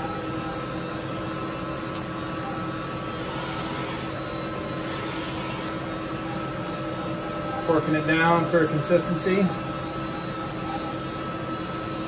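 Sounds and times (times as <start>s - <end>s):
machine-shop equipment humming: 0.0s - 12.0s.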